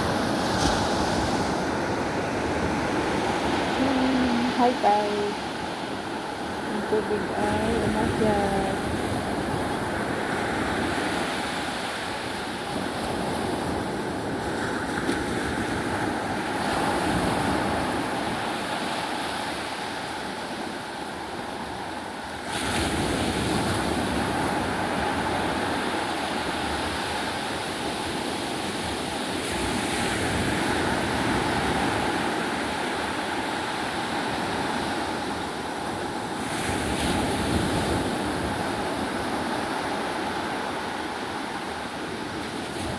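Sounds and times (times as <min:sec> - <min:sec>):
sea waves washing up beach: 0:00.0 - 0:42.9.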